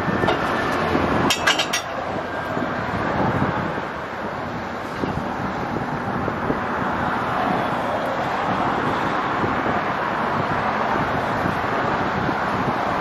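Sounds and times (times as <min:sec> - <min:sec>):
road traffic rushing: 0:00.0 - 0:13.0
wind buffeting microphone: 0:00.0 - 0:13.0.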